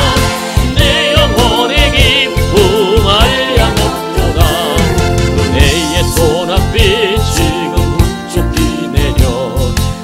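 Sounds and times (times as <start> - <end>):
steady drum beat: 0.0 - 10.0
upbeat gospel accompaniment: 0.0 - 10.0.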